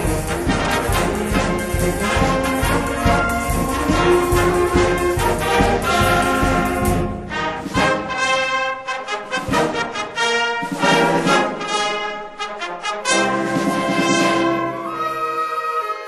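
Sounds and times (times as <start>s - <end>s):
wind band playing chords: 0.0s - 16.0s.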